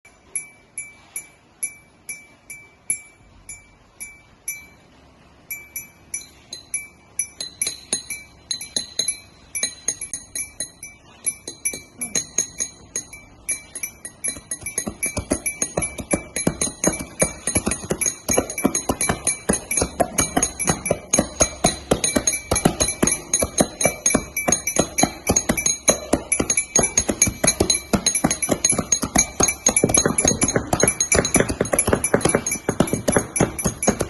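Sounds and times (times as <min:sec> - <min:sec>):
small bell ringing: 0:00.0 - 0:34.0.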